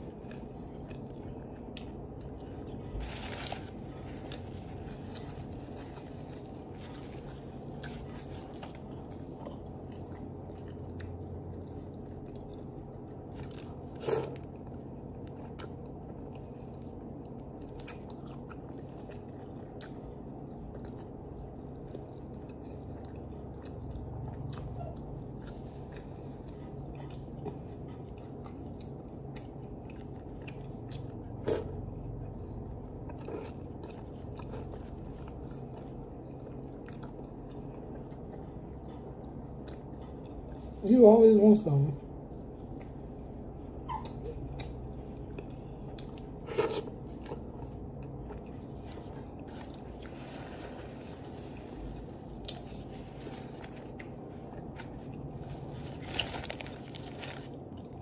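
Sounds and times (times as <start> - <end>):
person chewing bread: 0.0 - 40.8, 42.4 - 58.0
steady low hum: 0.0 - 58.0.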